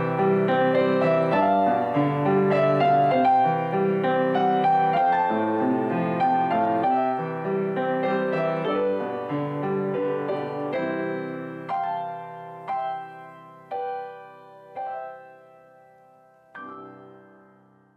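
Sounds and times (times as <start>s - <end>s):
gentle piano music: 0.0s - 17.9s.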